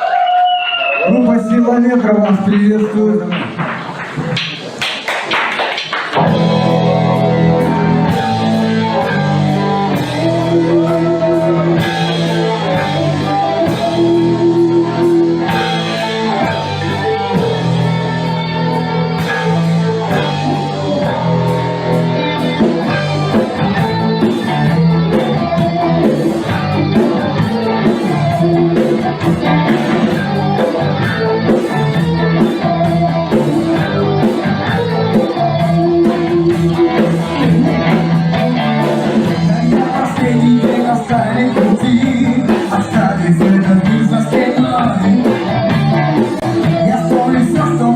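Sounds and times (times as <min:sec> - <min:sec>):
drum kit: 0:02.1 - 0:47.9
electric guitar melody: 0:06.2 - 0:47.9.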